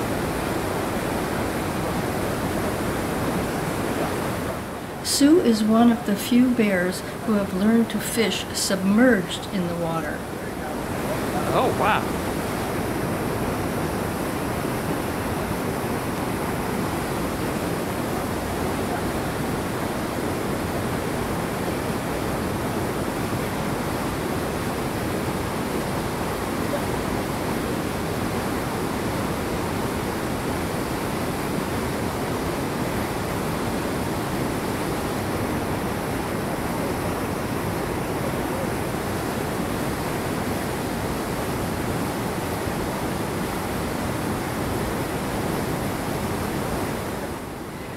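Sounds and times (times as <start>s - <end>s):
creek flowing over rocks: 0.0s - 47.9s.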